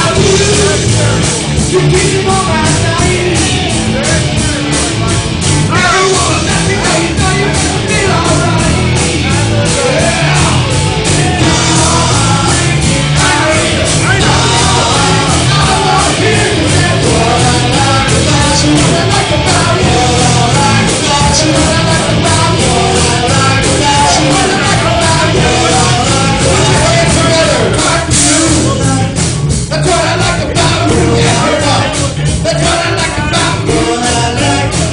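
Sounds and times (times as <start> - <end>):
drums beating: 0.0 - 34.9
person singing: 0.0 - 34.9
rock band playing: 0.0 - 34.9.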